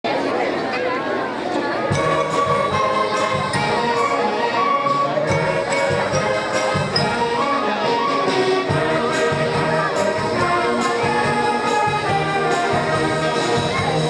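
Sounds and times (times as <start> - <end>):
school band playing: 1.8 - 14.0.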